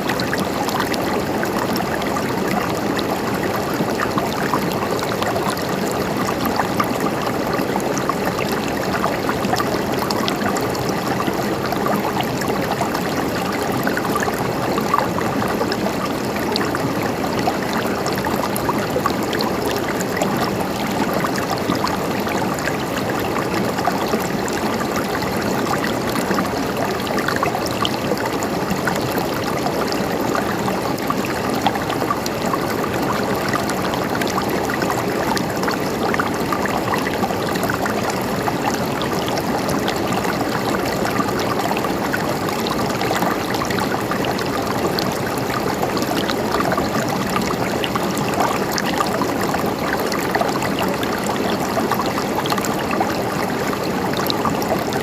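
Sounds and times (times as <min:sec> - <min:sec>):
stream water babbling over stones: 0:00.0 - 0:55.0.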